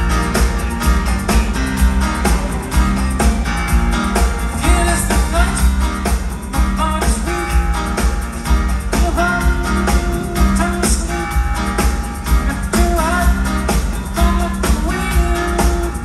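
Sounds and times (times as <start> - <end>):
drum kit: 0.0 - 16.0
electric guitars: 0.0 - 16.0
keyboards: 0.0 - 16.0.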